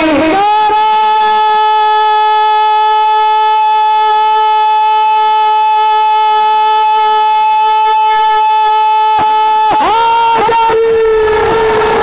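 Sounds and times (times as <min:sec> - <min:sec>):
man singing a long high note: 0:00.0 - 0:11.7.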